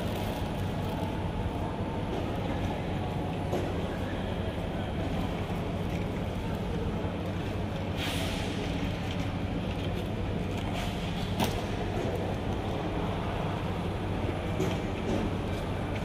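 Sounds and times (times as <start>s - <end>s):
terminal hall hum and rumble: 0.0s - 16.0s.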